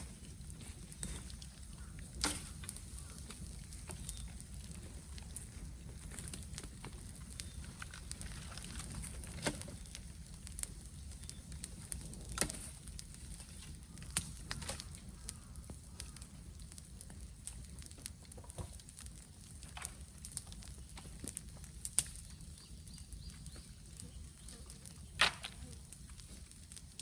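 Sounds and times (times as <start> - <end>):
bonfire crackling: 0.0 - 27.0
loud fire pops: 0.0 - 27.0.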